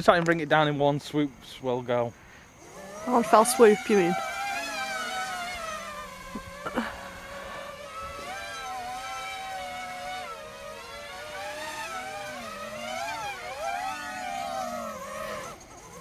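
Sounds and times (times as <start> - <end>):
drone propellers buzzing: 2.5 - 16.0.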